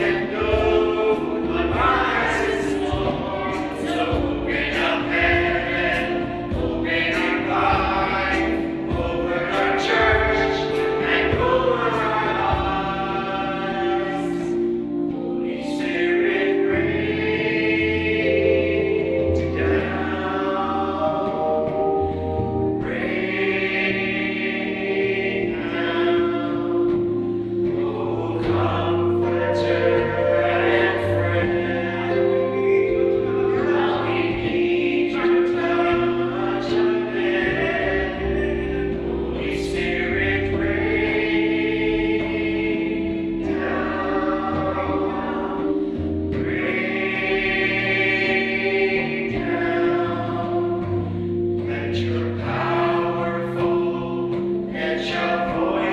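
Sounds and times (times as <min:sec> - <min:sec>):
group singing into microphones: 0:00.0 - 0:55.9
instrumental accompaniment: 0:00.0 - 0:55.9.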